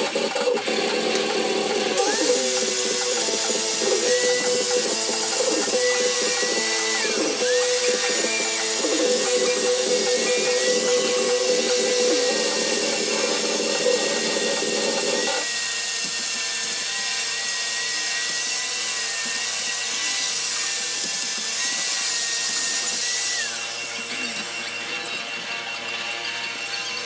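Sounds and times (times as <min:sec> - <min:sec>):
angle grinder grinding metal: 0:00.0 - 0:27.0.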